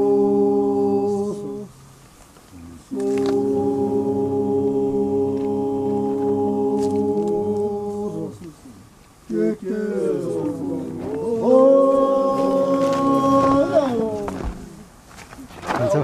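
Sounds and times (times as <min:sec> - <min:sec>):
voices chanting long notes: 0:00.0 - 0:01.9, 0:02.5 - 0:14.9.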